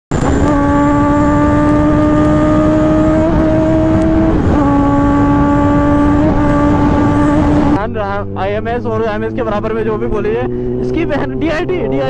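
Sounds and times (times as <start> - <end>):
motorcycle engine at high revs: 0.1 - 12.0.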